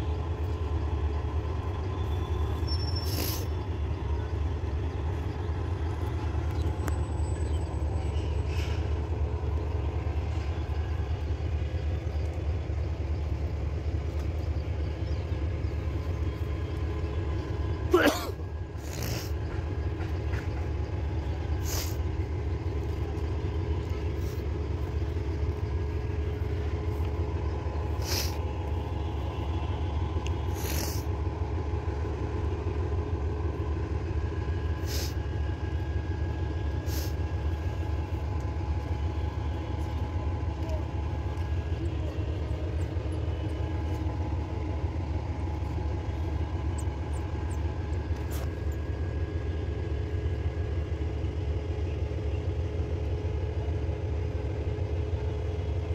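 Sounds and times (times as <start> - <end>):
steady motor drone: 9.4 - 55.9.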